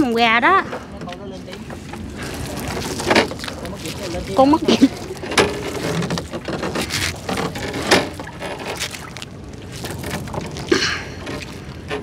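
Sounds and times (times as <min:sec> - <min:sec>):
water splashing and dripping: 0:01.5 - 0:12.0.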